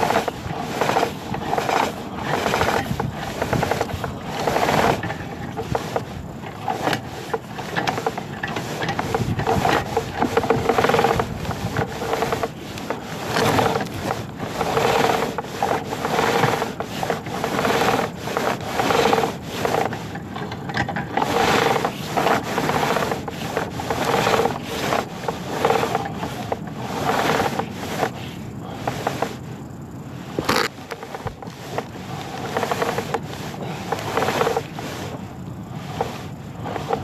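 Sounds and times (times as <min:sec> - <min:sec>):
cable rubbing and scraping in pipe: 0:00.0 - 0:37.0.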